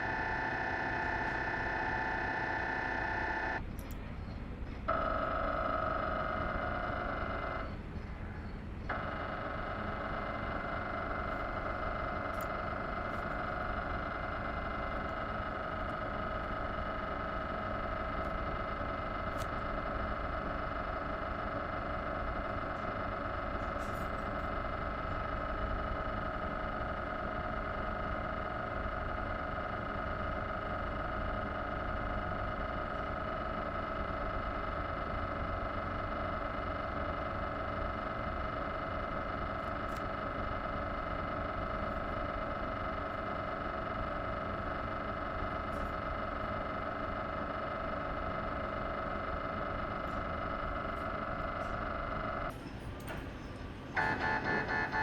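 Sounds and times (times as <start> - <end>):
mri scanner buzzing: 0.0 - 3.6, 4.8 - 55.0.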